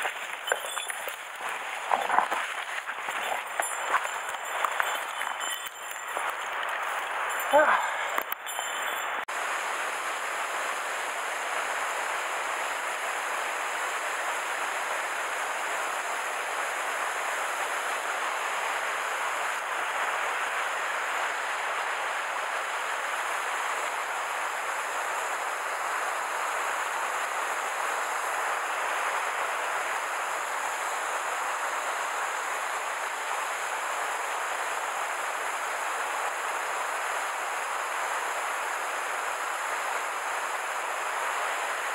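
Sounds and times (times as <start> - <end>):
stream water rushing over weir: 0.0 - 41.9.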